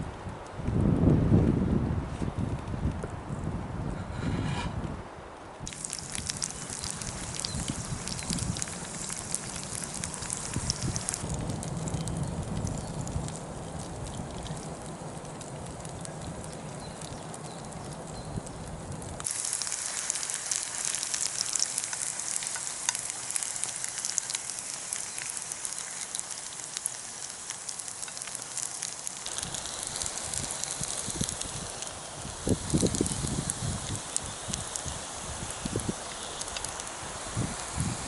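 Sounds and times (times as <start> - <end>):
food sizzling in hot oil: 5.6 - 15.2, 16.1 - 38.0.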